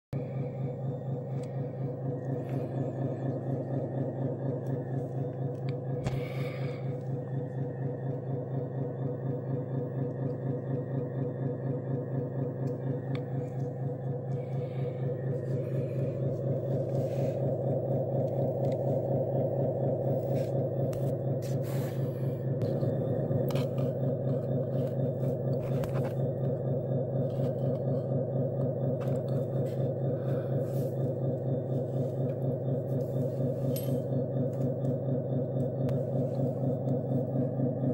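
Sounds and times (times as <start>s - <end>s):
electric hydraulic pump humming: 0.2s - 37.9s.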